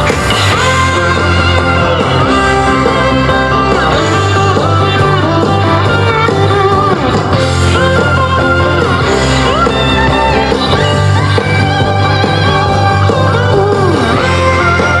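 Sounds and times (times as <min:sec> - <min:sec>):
blues-rock music through a speaker: 0:00.0 - 0:15.0.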